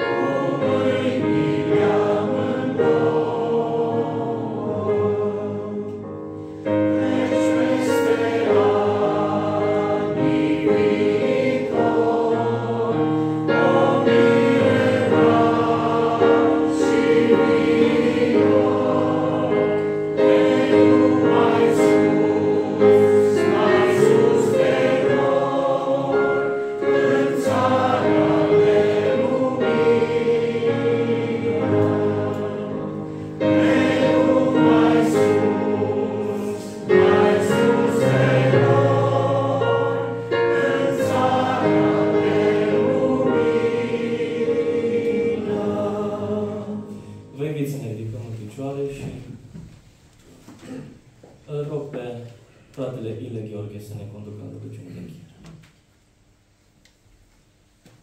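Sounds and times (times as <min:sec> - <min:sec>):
congregation singing a hymn: 0:00.0 - 0:49.4.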